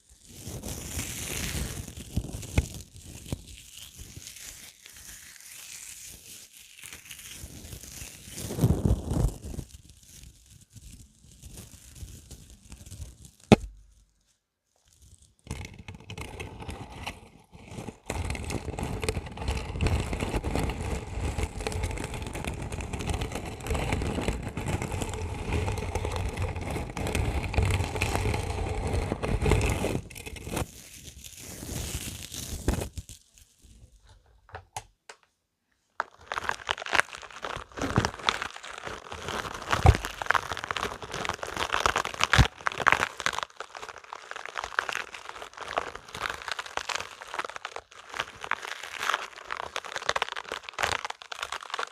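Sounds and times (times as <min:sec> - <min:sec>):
rubber balls rubbing and scraping: 0:00.0 - 0:14.2, 0:14.9 - 0:33.3, 0:36.0 - 0:51.9.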